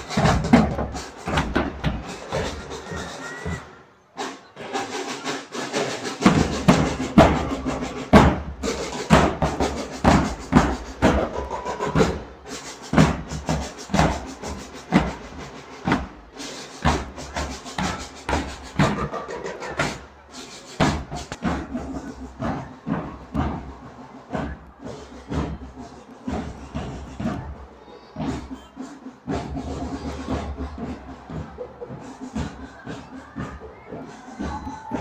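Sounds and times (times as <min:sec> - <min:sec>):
drum band playing: 0:00.0 - 0:35.0.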